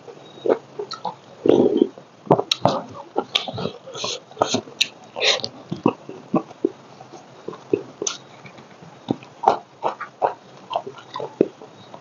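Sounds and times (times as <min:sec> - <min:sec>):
chewing rice: 0:00.0 - 0:12.0
mouth clicks: 0:00.3 - 0:12.0.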